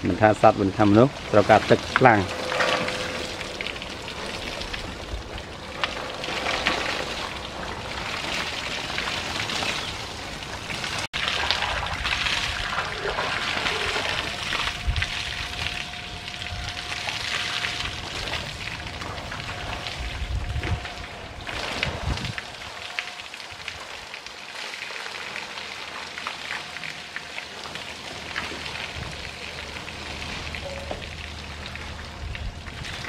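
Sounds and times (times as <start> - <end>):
hose water spraying: 0.0 - 33.0
water splashing on ground: 0.8 - 33.0.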